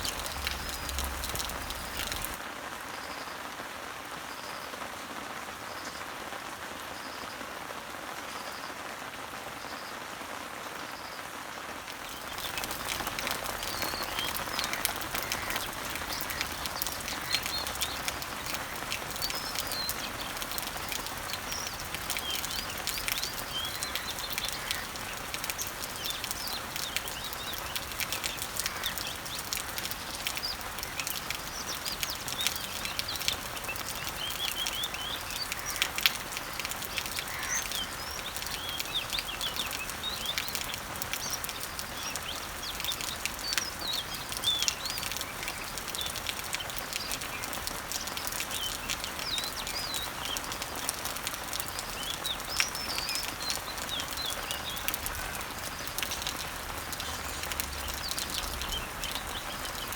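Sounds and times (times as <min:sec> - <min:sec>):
birds chirping: 0:00.0 - 0:02.4, 0:12.0 - 0:59.9
rain falling on leaves: 0:00.0 - 0:59.9.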